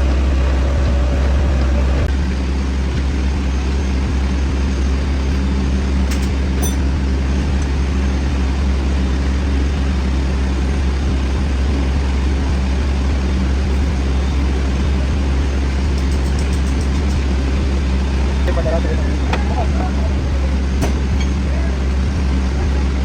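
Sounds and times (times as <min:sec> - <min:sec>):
metal lathe humming: 0:00.0 - 0:02.8, 0:03.5 - 0:23.0.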